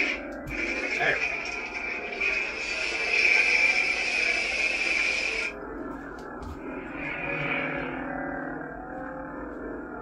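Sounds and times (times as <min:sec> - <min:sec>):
lightsaber electric hum: 0:00.0 - 0:10.0.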